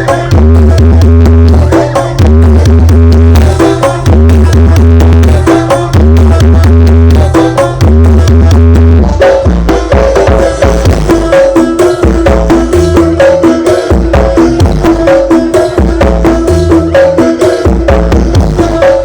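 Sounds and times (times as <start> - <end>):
hand drum beat: 0.0 - 19.0
heavy bass: 0.0 - 19.0
loud dance music: 0.0 - 19.0.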